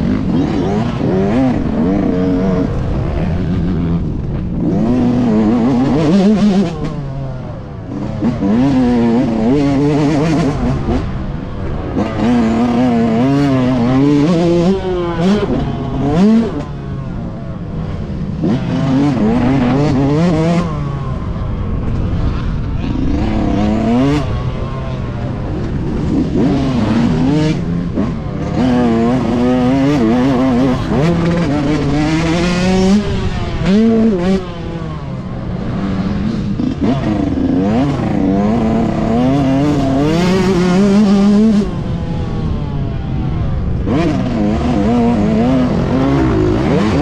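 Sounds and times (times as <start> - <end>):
two-stroke motorcycle revving: 0.0 - 47.0.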